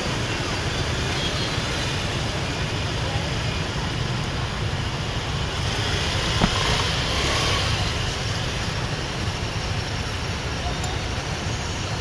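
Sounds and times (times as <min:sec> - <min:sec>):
motorbike engine and road rumble: 0:00.0 - 0:12.0
traffic noise: 0:00.0 - 0:12.0.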